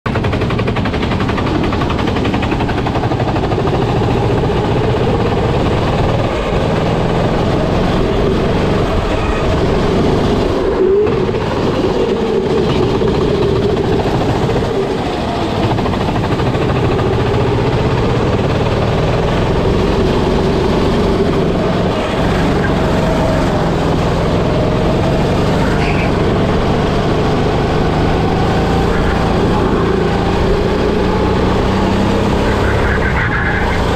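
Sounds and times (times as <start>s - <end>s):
go-kart engine: 0.1s - 33.9s.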